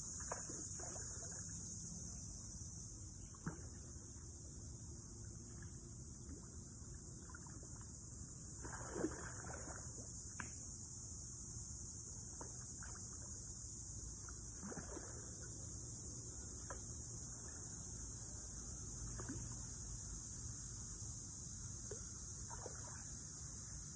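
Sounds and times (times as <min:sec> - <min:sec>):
insect chorus chirring: 0:00.0 - 0:23.9.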